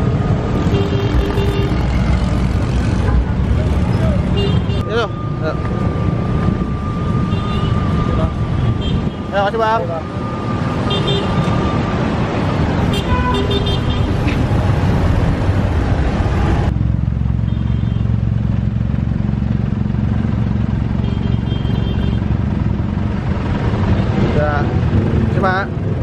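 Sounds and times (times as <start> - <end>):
car and motorcycle engines running: 0.0 - 12.9, 13.8 - 26.0.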